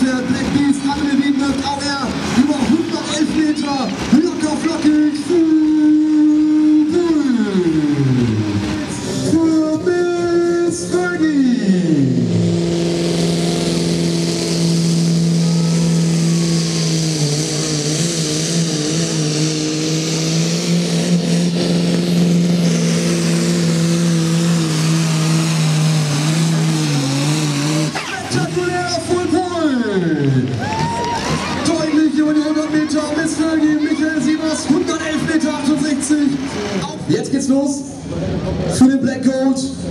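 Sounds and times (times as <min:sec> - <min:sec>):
tractor diesel running flat out: 0:00.0 - 0:11.3, 0:11.9 - 0:38.8
diesel engine revs falling: 0:00.0 - 0:38.8.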